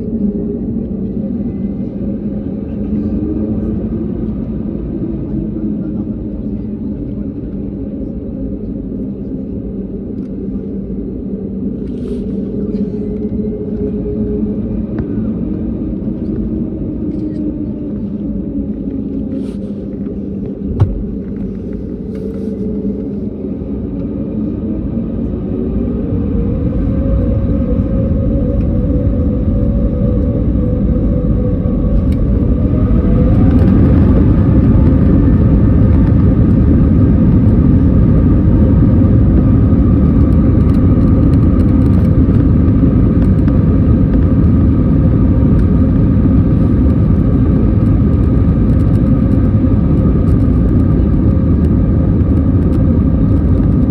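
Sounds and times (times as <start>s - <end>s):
jet engines spooling up: 0.0s - 53.9s.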